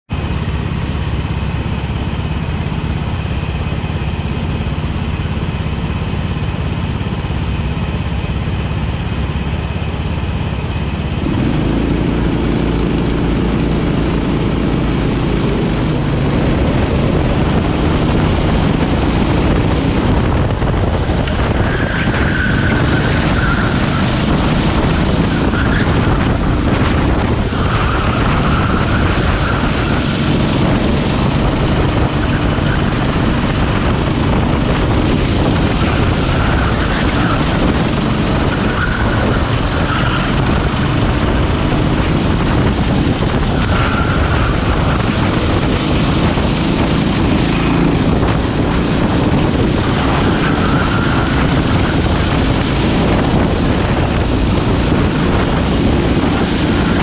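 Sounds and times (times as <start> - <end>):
go-kart engines racing: 0.1 - 57.0.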